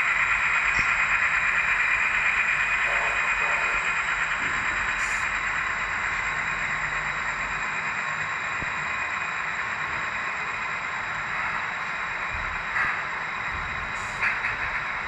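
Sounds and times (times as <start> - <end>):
model railroad cars rolling: 0.0 - 15.0.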